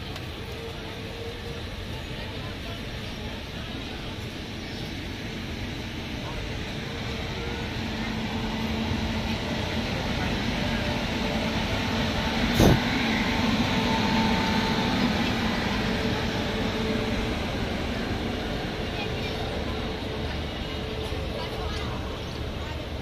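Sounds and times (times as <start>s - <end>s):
electric locomotive humming: 0.0s - 23.0s.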